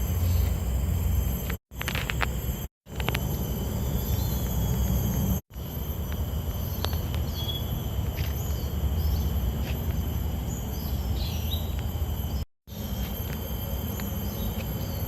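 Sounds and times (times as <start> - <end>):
high-pitched insect calls: 0.0 - 15.0.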